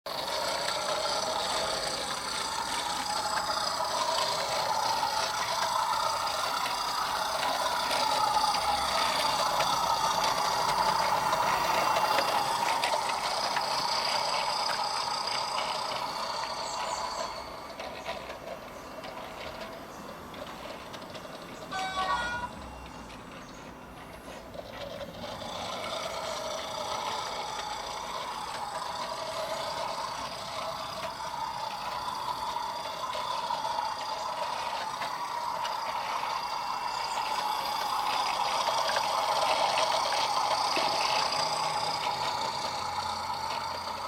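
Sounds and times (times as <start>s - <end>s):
model locomotive engine sound from speaker: 0.0s - 44.0s
wheels rattling on rails: 0.0s - 44.0s.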